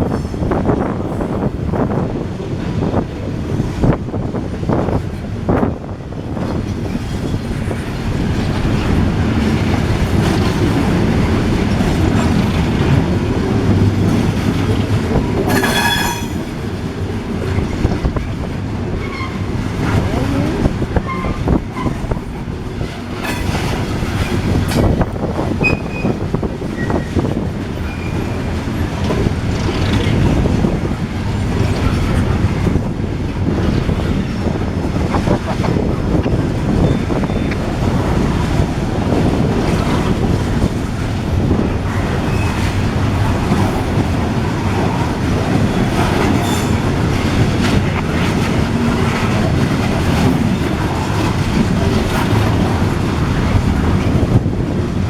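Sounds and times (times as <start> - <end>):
train wheels rumbling on rails: 0.0 - 55.0
wheels clacking over rail joints: 4.6 - 55.0.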